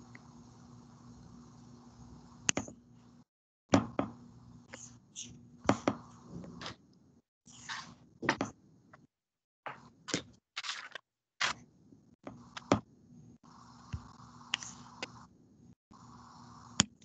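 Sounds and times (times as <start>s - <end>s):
faint electrical hum: 0.0s - 8.9s, 11.4s - 17.0s.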